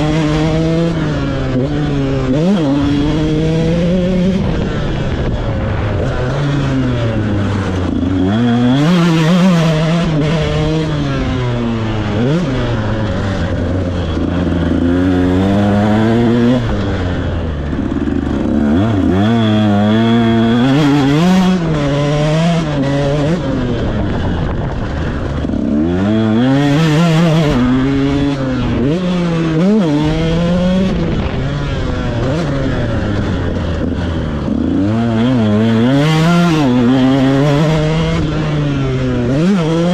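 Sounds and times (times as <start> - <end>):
two-stroke motocross engine revving: 0.0 - 39.9.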